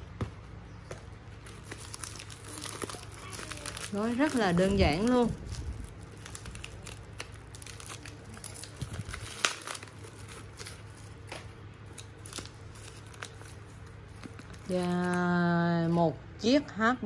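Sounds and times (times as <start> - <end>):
foil and paper crinkling: 1.4 - 16.0.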